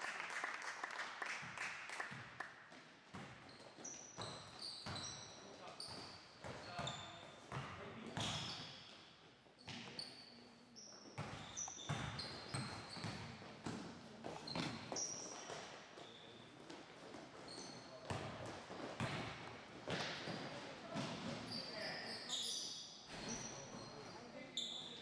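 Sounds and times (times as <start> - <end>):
sneakers squeaking: 3.1 - 9.0, 9.6 - 25.0.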